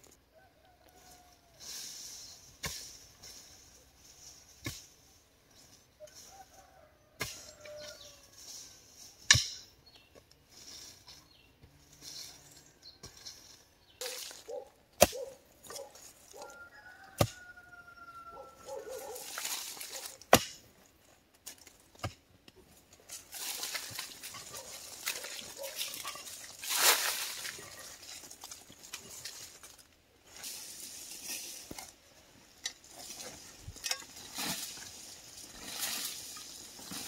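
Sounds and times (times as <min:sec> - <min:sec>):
rustling and scraping: 0:00.8 - 0:17.4, 0:18.3 - 0:37.0.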